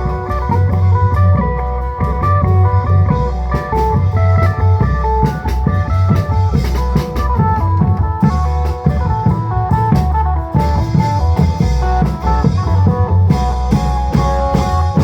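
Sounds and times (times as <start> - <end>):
heavy bass: 0.0 - 15.0
long drums and percussion: 0.0 - 15.0.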